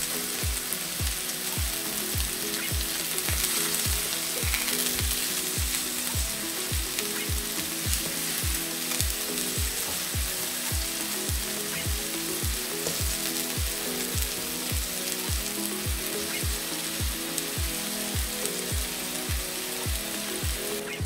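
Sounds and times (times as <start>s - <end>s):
background music with steady beat: 0.0s - 21.0s
patties sizzling in a frying pan: 0.0s - 21.0s.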